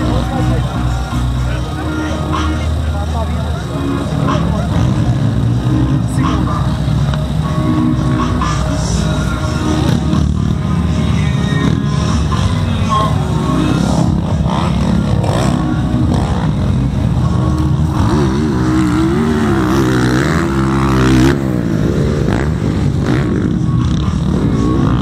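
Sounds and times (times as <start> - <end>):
motorcycle engines revving: 0.0 - 25.0
steady low rumble: 0.0 - 25.0.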